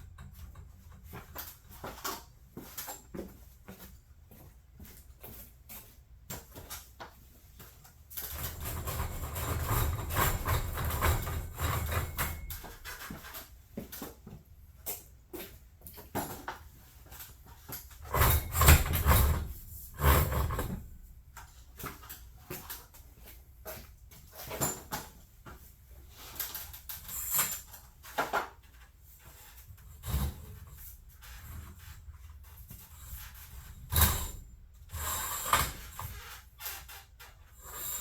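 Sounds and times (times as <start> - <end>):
knocks clatters and scraping: 6.3 - 38.0.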